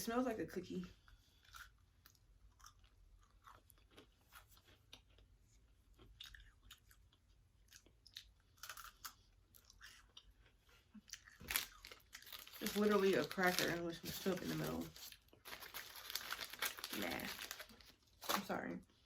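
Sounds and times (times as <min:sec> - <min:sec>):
person chewing cracker crunches: 0:01.3 - 0:12.8, 0:14.4 - 0:18.4.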